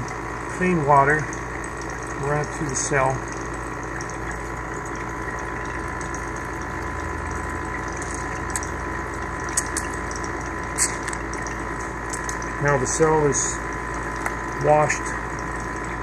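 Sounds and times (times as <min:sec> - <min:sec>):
faint hum: 0:00.0 - 0:16.0
water flowing: 0:00.0 - 0:16.0.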